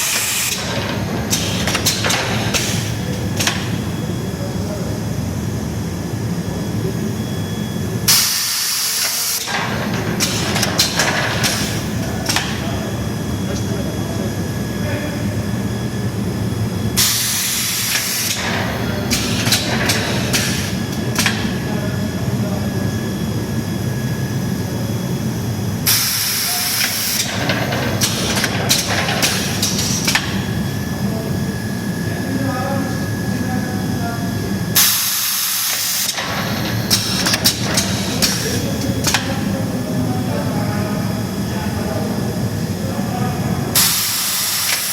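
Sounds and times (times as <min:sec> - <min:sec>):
welding machine humming: 0:00.0 - 0:04.7, 0:08.1 - 0:44.9.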